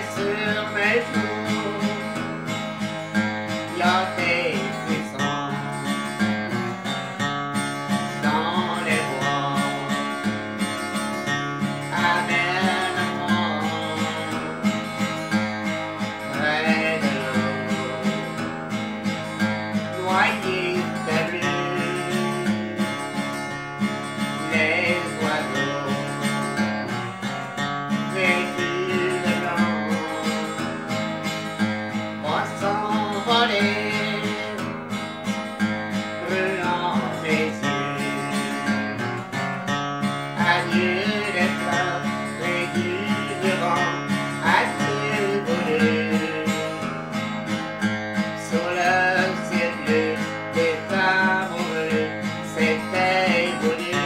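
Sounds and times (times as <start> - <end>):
acoustic guitar strummed and picked: 0.0 - 54.0.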